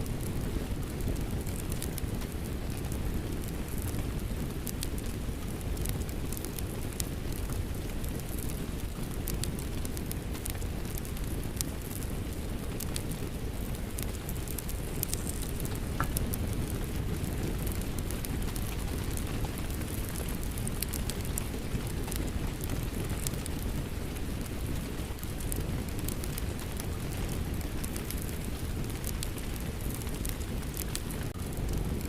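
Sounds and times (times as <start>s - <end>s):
steady rain: 0.0s - 32.0s
wood fire crackling and popping: 0.0s - 32.0s.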